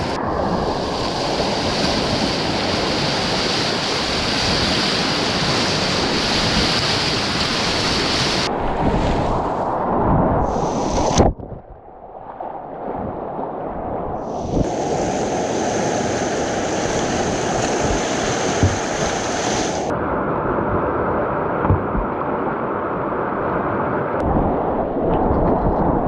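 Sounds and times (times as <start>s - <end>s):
water rushing through rapids: 0.0s - 11.3s, 14.2s - 26.0s
wind on microphone: 0.0s - 26.0s.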